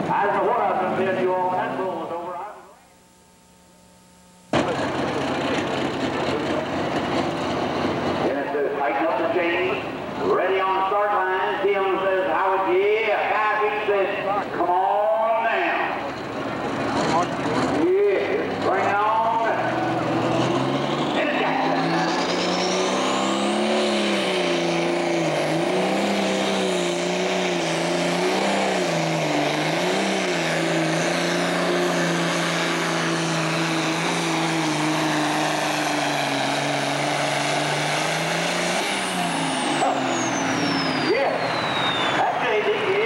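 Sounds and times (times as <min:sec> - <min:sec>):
tractor diesel engine at full throttle: 0:00.0 - 0:02.3, 0:04.5 - 0:43.0
high turbo whine: 0:00.0 - 0:43.0.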